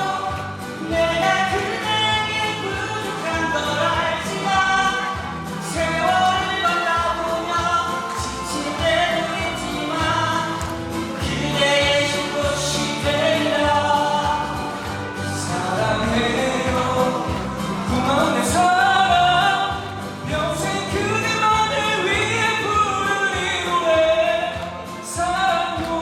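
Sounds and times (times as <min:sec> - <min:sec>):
person singing a love ballad: 0:00.0 - 0:26.0.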